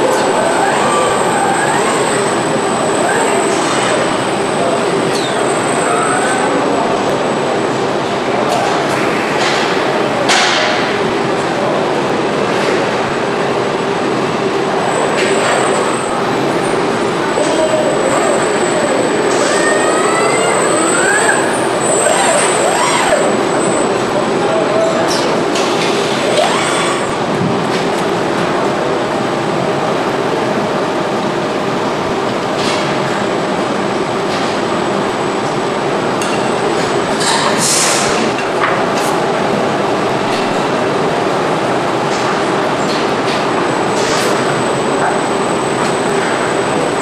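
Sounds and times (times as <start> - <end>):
factory machinery din: 0.0 - 47.0.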